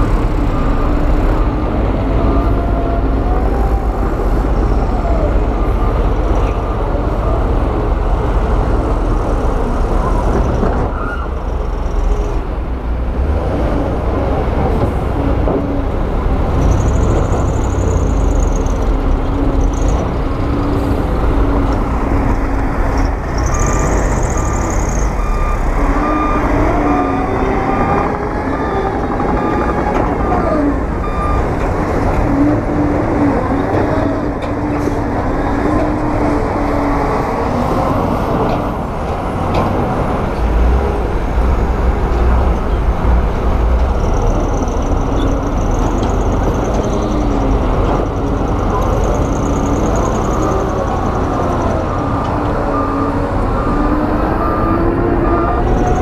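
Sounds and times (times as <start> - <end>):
diesel machinery engine rumbling: 0.0 - 56.0.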